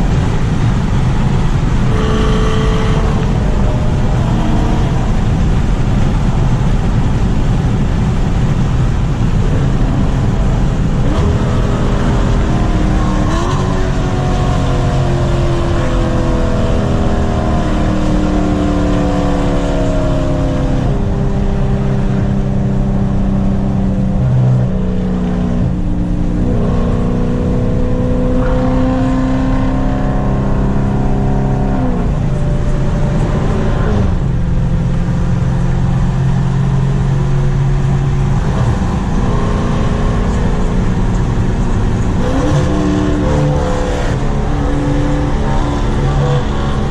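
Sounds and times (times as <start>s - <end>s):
loud car engine and exhaust: 0.0s - 46.9s.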